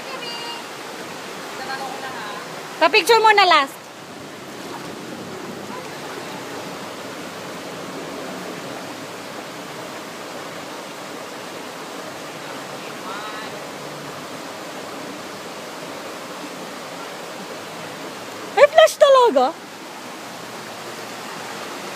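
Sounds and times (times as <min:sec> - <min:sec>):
river rushing over rocks: 0:00.0 - 0:21.9.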